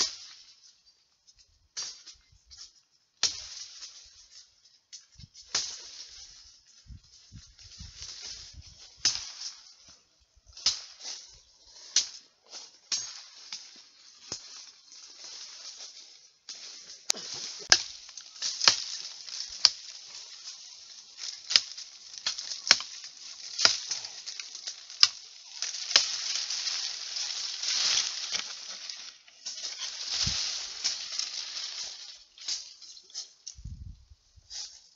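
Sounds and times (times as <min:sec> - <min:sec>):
leaves and twigs crackling: 0:00.0 - 0:34.9.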